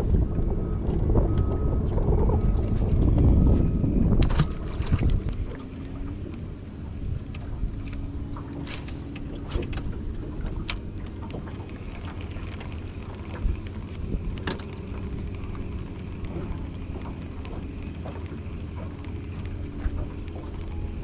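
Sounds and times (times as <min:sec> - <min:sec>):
choppy water against boat: 0:00.0 - 0:21.0
low rumble of wind: 0:00.0 - 0:21.0.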